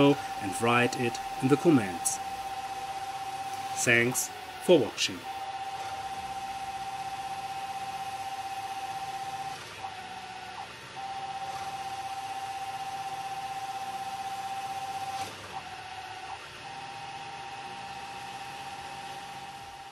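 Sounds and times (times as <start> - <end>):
metal lathe whining: 0.0 - 19.9.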